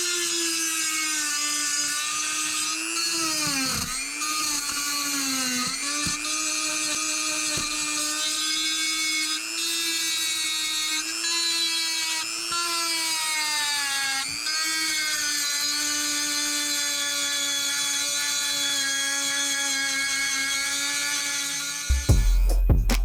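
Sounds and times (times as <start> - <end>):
rotary engraver whining: 0.0 - 22.1.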